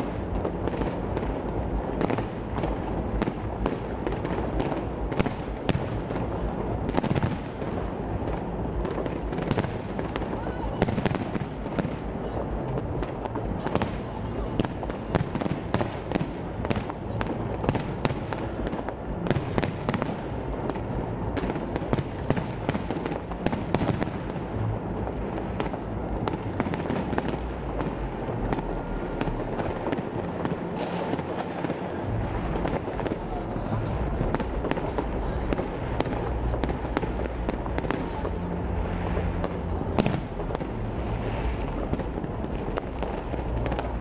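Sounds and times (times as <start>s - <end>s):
fireworks crackling and banging: 0.0s - 44.0s.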